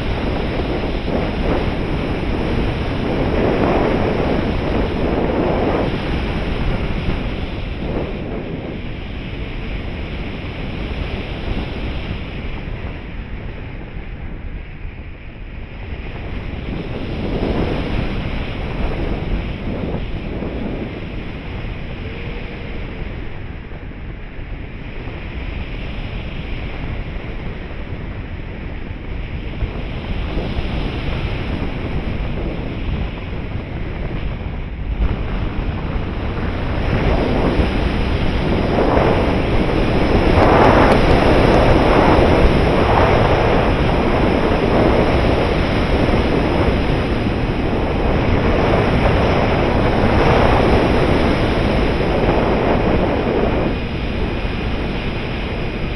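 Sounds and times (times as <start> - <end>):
airflow rushing over microphone: 0.0 - 55.9.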